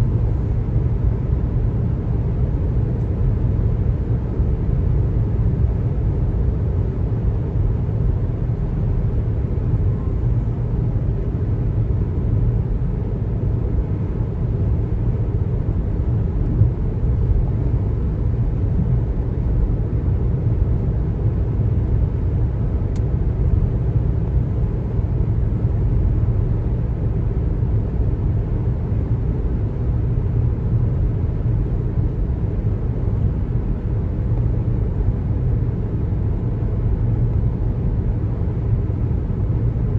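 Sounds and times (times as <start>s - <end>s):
car road rumble and tyre noise: 0.0s - 39.9s.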